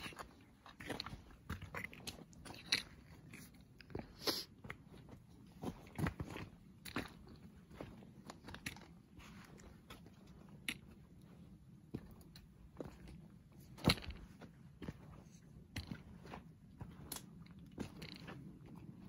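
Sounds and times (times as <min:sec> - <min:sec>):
footsteps crunching on trail: 0:00.0 - 0:19.0.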